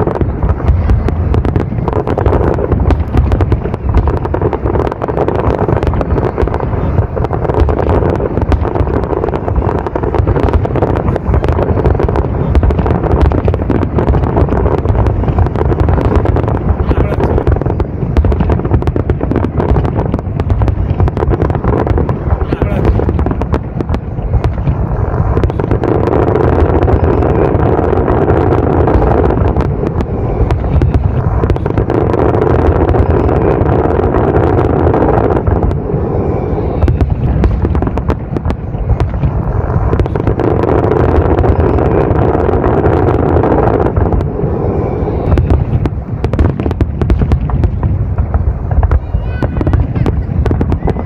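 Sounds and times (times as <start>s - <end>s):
fireworks bangs and crackling: 0.0s - 51.0s
steady background noise: 0.0s - 51.0s.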